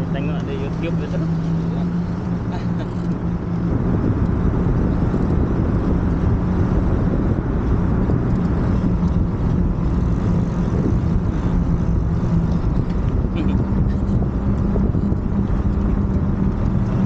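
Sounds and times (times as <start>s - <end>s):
moped engine running: 0.0s - 17.0s
wind noise: 0.0s - 17.0s.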